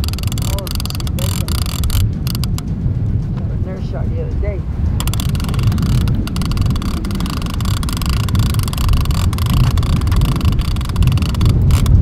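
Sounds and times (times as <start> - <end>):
fishing reel drag clicking: 0.0 - 2.6, 5.0 - 12.0
loud low rumble: 0.0 - 12.0.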